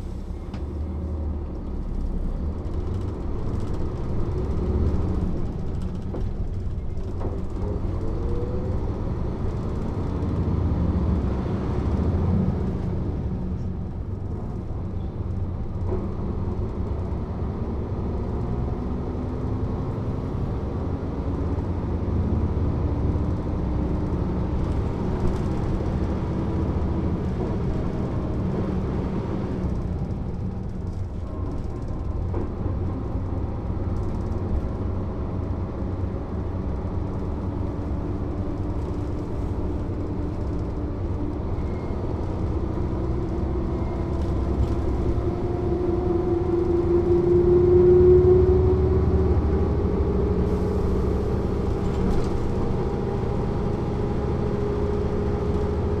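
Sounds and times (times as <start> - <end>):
bus diesel engine accelerating: 0.0 - 56.0.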